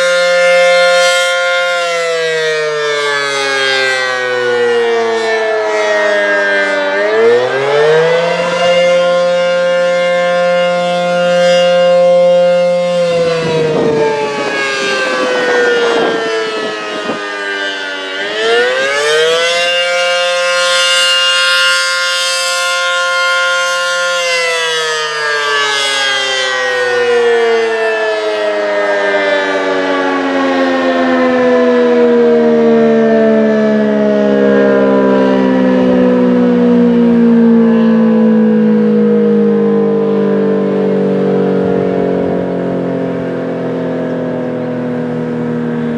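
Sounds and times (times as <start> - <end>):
rotating warning siren: 0.0 - 45.9.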